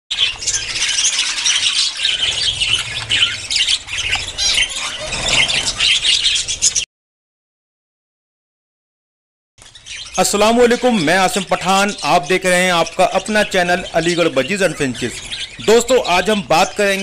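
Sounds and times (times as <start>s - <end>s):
budgerigars chattering and squawking: 0.1s - 6.8s, 9.6s - 17.0s.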